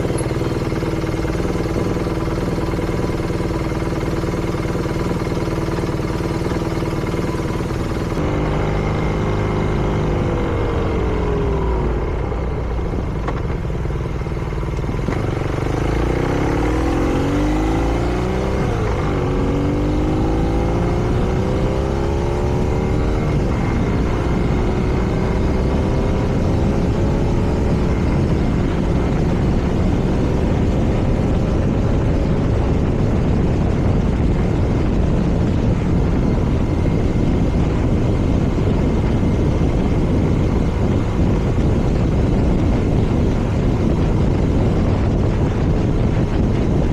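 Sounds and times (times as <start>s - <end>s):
motorcycle engine accelerating: 0.0s - 46.9s
wind noise: 0.0s - 46.9s.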